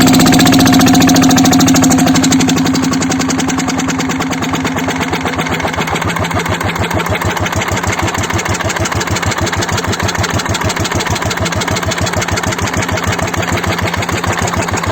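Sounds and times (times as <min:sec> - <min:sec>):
diesel engine running: 0:00.0 - 0:14.9.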